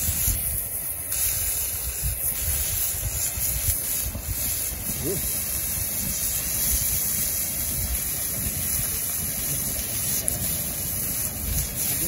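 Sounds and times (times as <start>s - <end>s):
fire rumbling: 0.0s - 12.0s
meat sizzling: 0.0s - 12.0s.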